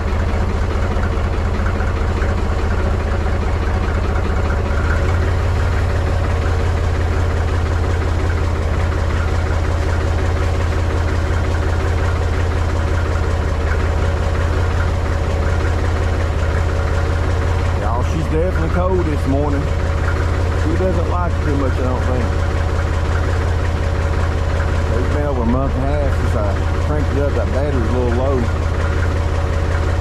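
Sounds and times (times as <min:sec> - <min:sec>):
tractor diesel engine idling rough: 0:00.0 - 0:30.0.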